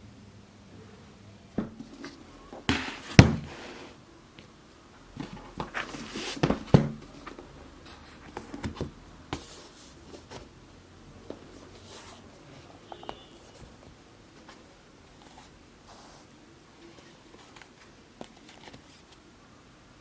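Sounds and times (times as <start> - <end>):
rustling: 1.6 - 19.2.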